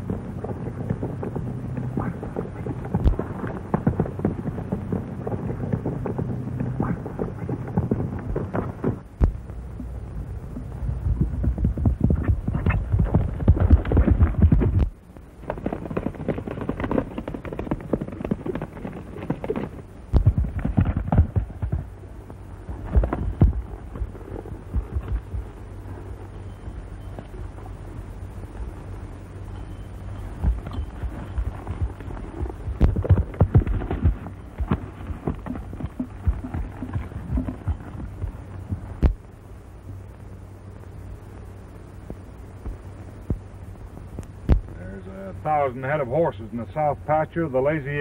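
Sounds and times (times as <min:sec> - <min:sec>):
galloping horse hoofbeats: 0:00.0 - 0:40.1
old film soundtrack hum: 0:00.0 - 0:48.0.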